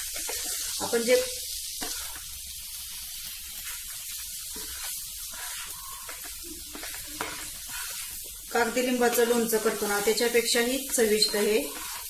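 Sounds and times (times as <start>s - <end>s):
food sizzling in hot oil: 0.0s - 12.0s
wooden spatula stirring: 0.0s - 12.0s.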